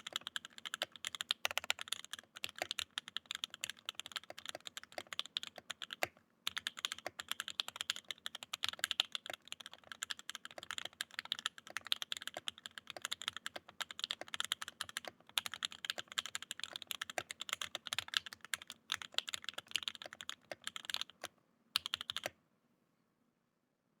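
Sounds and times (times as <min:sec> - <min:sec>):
mechanical keyboard typing: 0:00.0 - 0:22.3.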